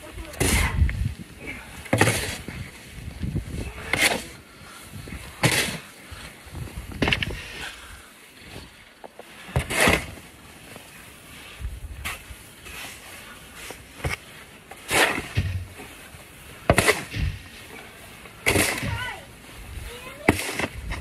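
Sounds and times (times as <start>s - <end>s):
snow shovel scraping: 0.0s - 21.0s.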